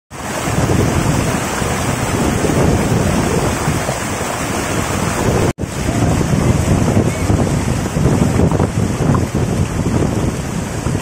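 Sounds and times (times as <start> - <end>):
stream rushing over rocks: 0.1 - 11.0.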